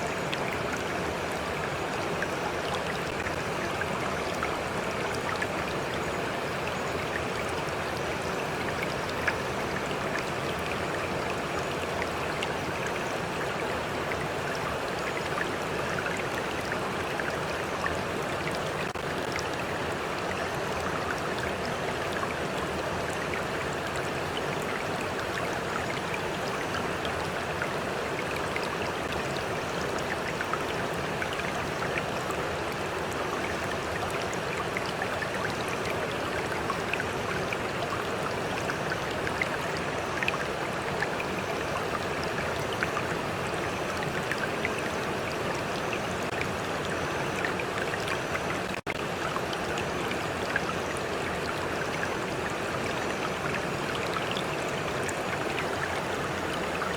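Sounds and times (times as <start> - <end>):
stream flowing: 0.0 - 56.9
water lapping and dripping: 0.0 - 56.9.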